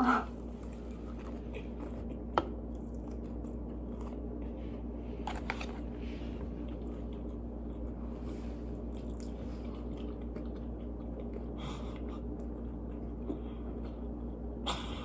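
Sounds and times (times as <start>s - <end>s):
crunchy chewing: 0.0s - 14.5s
steady low hum: 0.0s - 15.0s.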